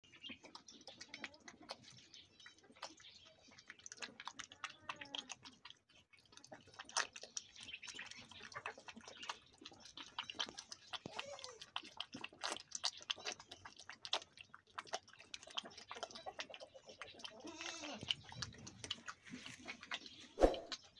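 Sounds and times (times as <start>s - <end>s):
goat kid suckling from bottle: 0.2s - 20.9s.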